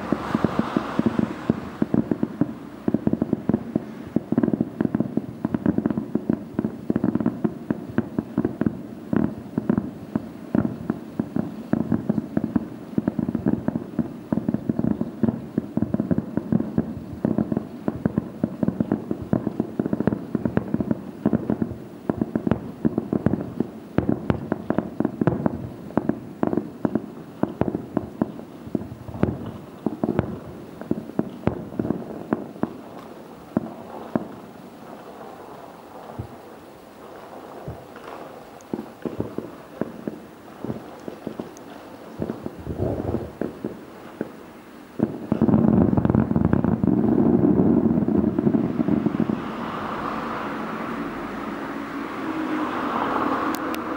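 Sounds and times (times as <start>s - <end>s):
fireworks popping and crackling: 0.0s - 53.9s.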